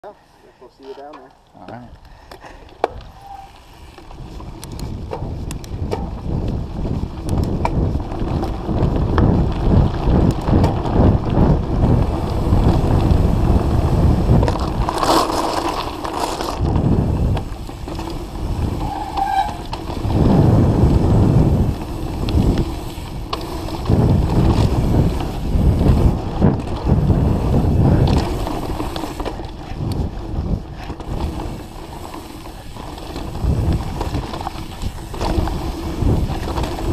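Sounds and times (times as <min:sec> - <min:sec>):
bike rattling over bumps: 0:02.4 - 0:36.9
tyres rolling and skidding on dirt: 0:02.8 - 0:36.9
wind buffeting microphone: 0:02.9 - 0:36.9.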